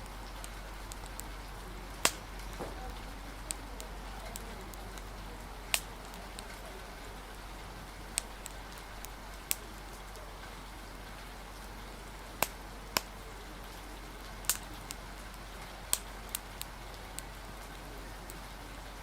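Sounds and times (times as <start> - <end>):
rain hissing: 0.0 - 19.0
wood fire crackling and popping: 0.0 - 19.0.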